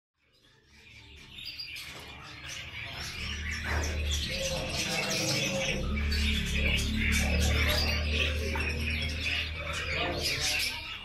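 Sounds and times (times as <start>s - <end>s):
parakeet chirping: 0.9s - 11.0s.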